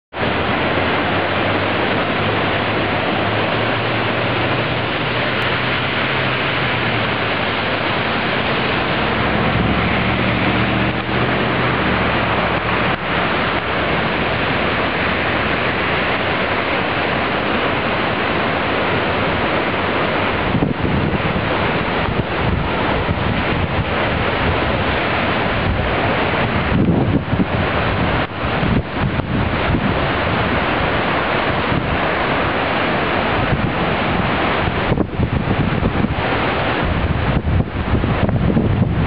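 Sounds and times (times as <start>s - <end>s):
floodwater rushing: 0.1s - 39.0s.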